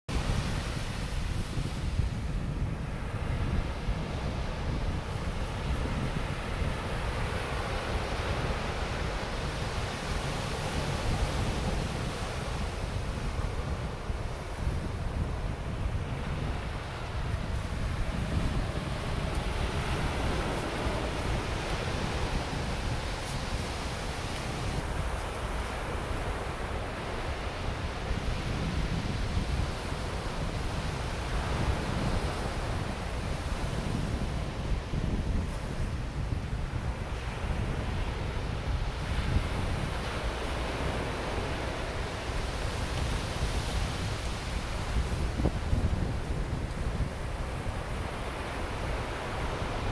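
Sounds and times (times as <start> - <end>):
ocean surf breaking on beach: 0.1 - 49.9
wind rumble on microphone: 0.1 - 49.9.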